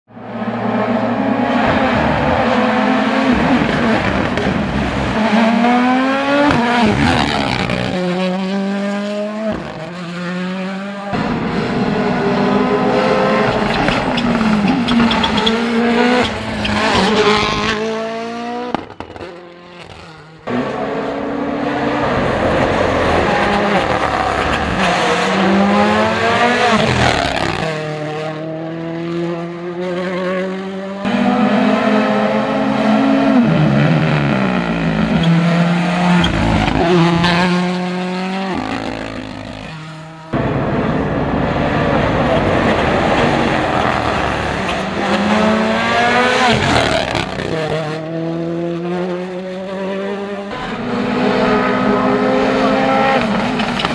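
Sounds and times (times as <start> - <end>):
rally car engines revving: 0.1 - 53.9.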